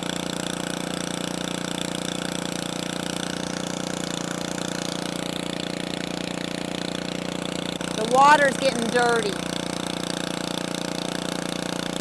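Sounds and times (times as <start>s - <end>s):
engine-driven water pump running: 0.0s - 12.0s.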